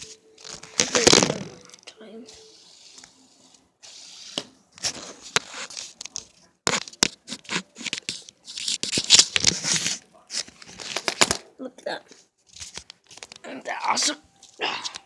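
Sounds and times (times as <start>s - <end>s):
crinkling and rustling: 0.0s - 3.7s, 4.3s - 11.4s, 12.1s - 15.0s.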